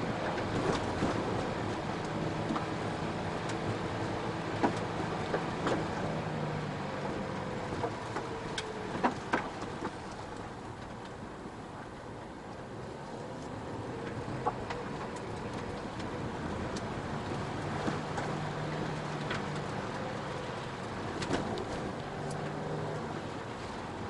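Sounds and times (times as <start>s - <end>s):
car engine hum: 0.0s - 24.0s
stones clicking under tyres: 0.2s - 6.5s, 7.4s - 11.2s, 12.5s - 23.2s.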